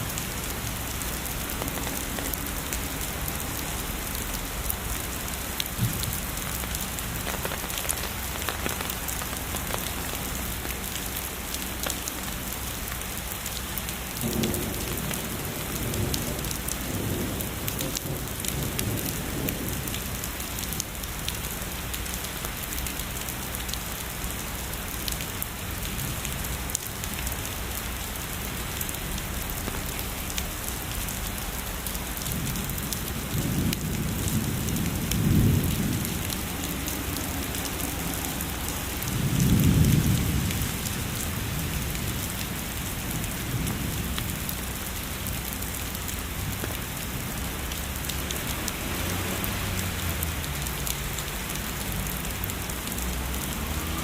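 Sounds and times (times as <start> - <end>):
heavy rainfall hissing: 0.0 - 54.0.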